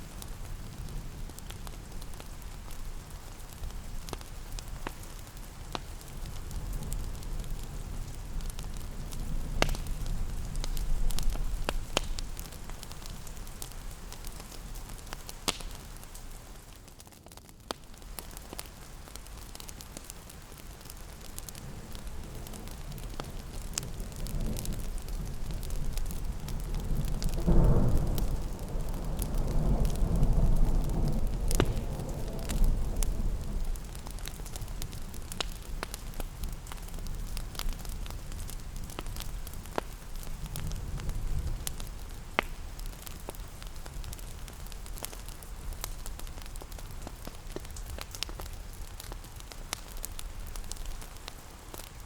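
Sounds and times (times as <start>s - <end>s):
fireplace crackling and popping: 0.0s - 52.0s
low rumble of fire and rain: 0.0s - 52.0s.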